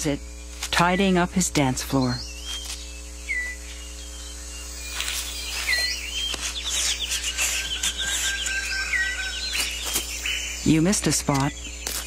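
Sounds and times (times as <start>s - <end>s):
birds chirping and whistling: 0.3s - 12.0s.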